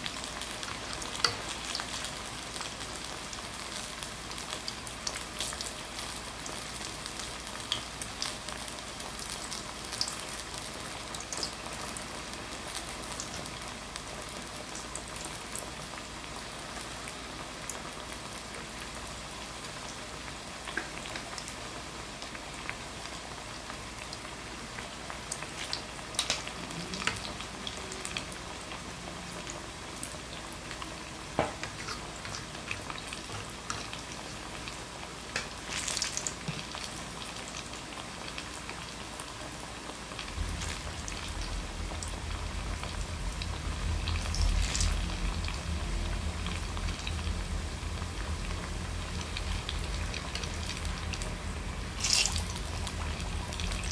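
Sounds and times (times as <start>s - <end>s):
food deep-frying in hot oil: 0.0s - 53.9s.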